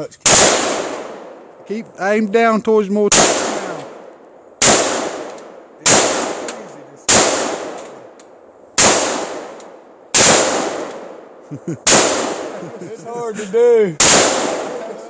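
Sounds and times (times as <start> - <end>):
rifle shots echoing: 0.2 - 1.7, 3.0 - 12.8, 14.0 - 15.0.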